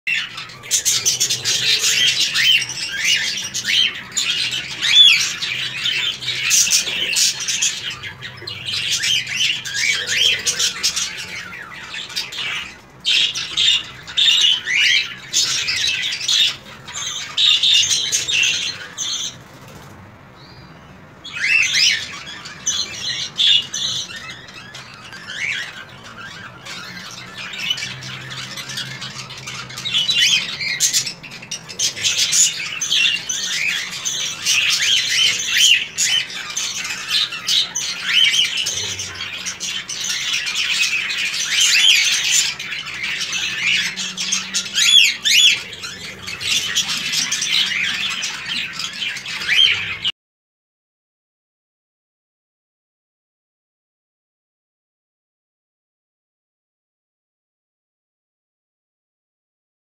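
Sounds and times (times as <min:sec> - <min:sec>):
cockatiels chirping and squawking: 0:00.1 - 0:50.1.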